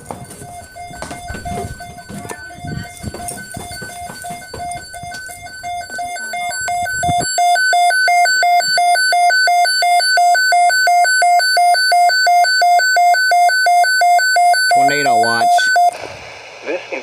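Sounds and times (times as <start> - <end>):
rapid pulsed alarm beeping: 0.0 - 16.0.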